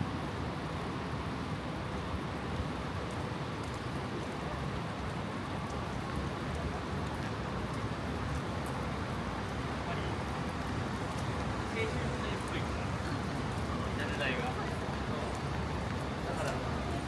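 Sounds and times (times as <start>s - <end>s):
steady rain on street: 0.0s - 17.0s.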